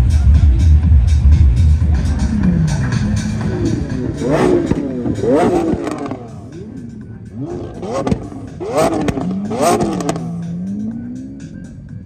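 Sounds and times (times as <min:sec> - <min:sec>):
car engine revving: 0:00.0 - 0:12.0
music: 0:00.0 - 0:12.0.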